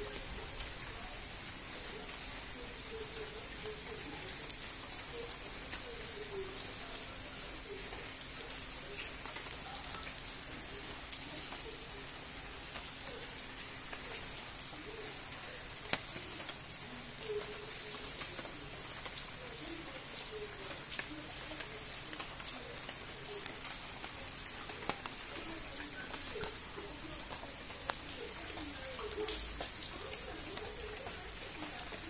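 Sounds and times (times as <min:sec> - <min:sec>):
rain on foliage: 0:00.0 - 0:32.0
raindrops tapping close by: 0:00.0 - 0:32.0.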